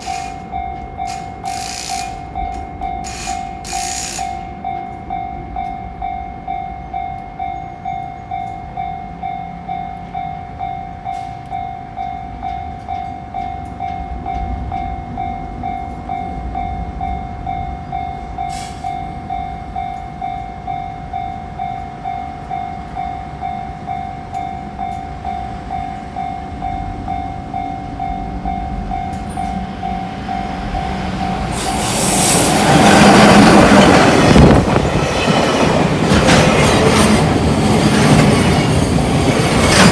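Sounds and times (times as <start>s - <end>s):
train passing: 0.0s - 39.9s.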